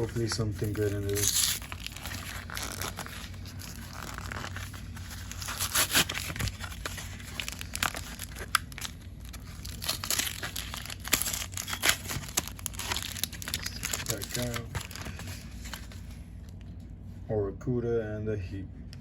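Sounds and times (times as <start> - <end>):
foil wrapper crinkling and tearing: 0.0 - 16.2.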